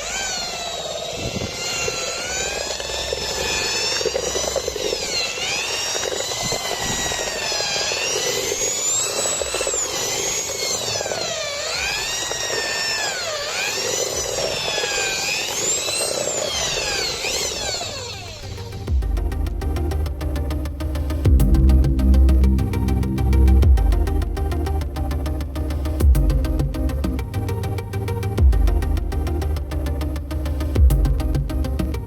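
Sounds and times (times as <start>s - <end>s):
impact drill motor whine: 0.0s - 30.8s.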